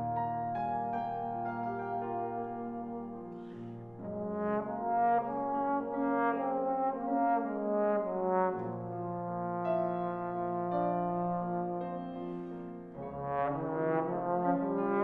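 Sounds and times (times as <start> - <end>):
piano accompaniment: 0.0 - 15.0
trombone melody: 0.0 - 15.0.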